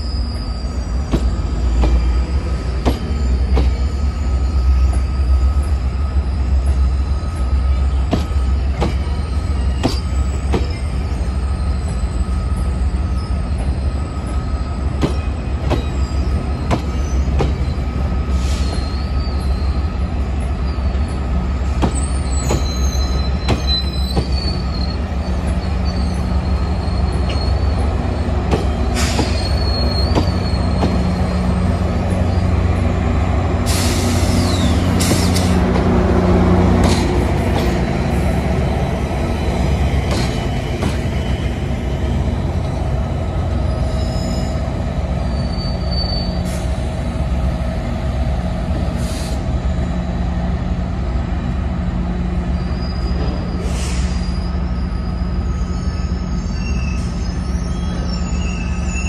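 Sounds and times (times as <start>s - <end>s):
diesel locomotive engine drone: 0.0s - 59.0s
train wheel squeal: 0.0s - 59.0s.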